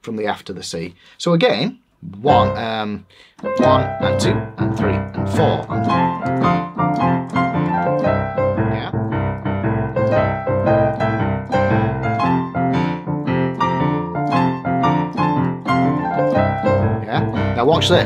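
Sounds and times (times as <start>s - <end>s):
boogie-woogie piano: 2.2s - 18.0s.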